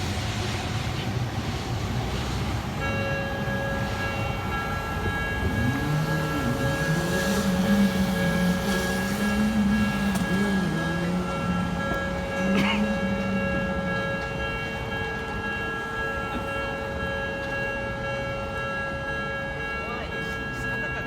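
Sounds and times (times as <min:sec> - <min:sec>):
electric train passing: 0:00.0 - 0:21.0
level crossing alarm ringing: 0:02.8 - 0:21.0.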